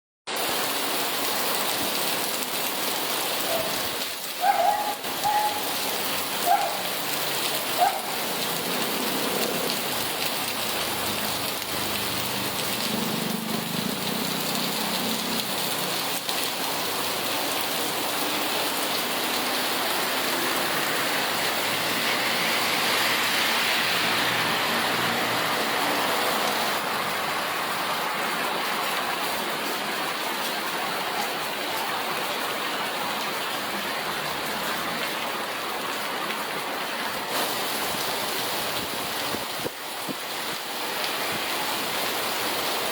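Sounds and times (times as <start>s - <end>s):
heavy rain splashing: 0.3s - 42.9s.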